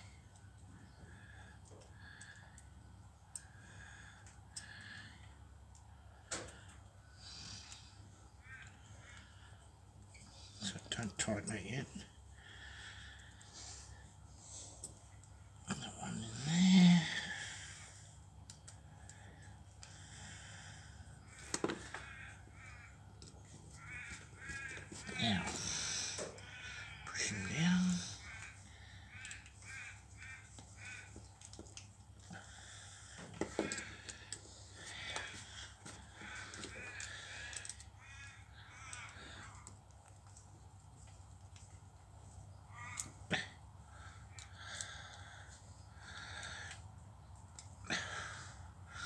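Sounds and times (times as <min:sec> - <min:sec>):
bird cawing: 0:00.0 - 0:49.0
steady low hum: 0:00.0 - 0:49.0.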